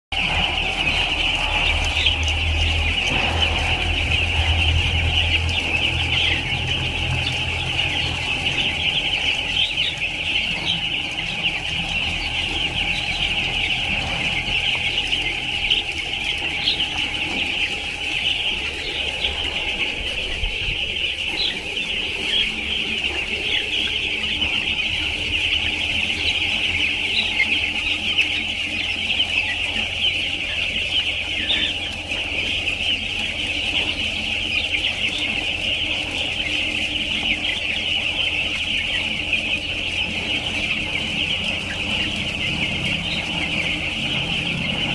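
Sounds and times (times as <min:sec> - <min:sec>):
baby chicks peeping: 0:00.1 - 0:44.9
low steady hum: 0:00.2 - 0:44.9.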